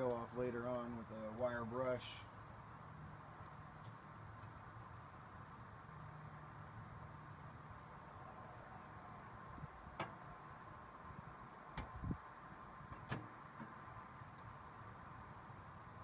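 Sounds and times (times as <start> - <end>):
faint steady background: 0.0 - 16.0.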